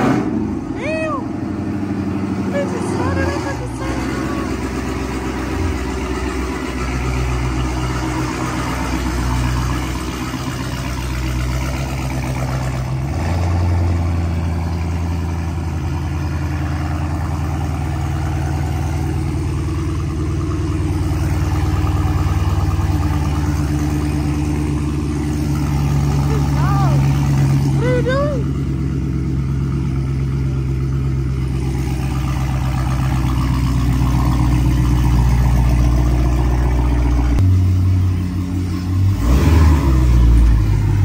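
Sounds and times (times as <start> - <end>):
car engine idling loudly: 0.0 - 41.0.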